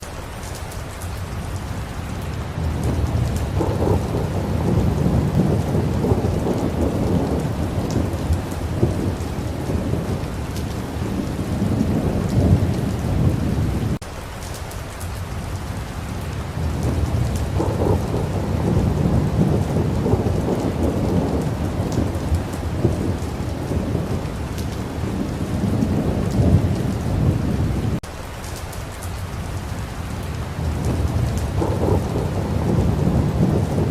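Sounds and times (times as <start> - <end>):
steady rain falling: 0.0 - 33.9
thunder rumbling: 1.1 - 14.0, 15.3 - 28.1, 29.1 - 33.9.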